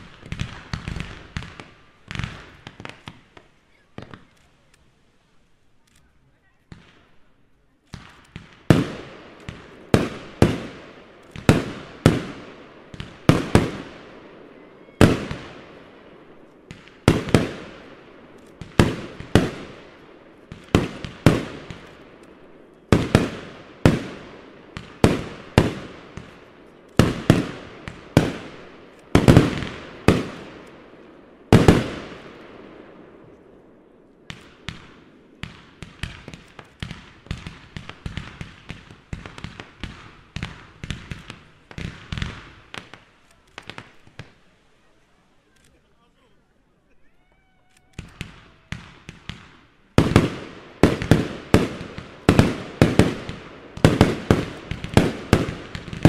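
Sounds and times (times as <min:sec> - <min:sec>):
fireworks bangs with echo: 0:00.0 - 0:04.7, 0:06.6 - 0:07.3, 0:07.9 - 0:44.6, 0:48.0 - 0:56.0
small fireworks bangs: 0:00.0 - 0:46.2, 0:46.8 - 0:56.0.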